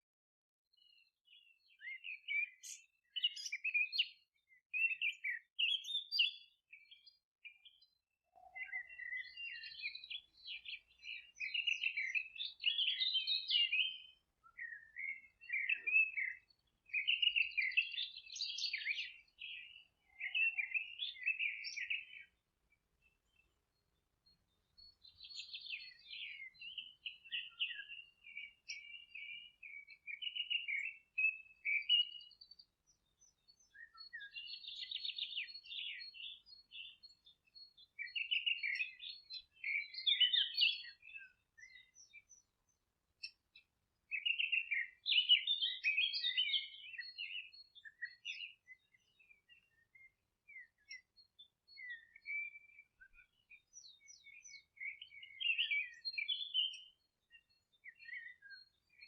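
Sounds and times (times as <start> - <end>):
songbird twittering: 0.8 - 22.4, 24.7 - 59.0.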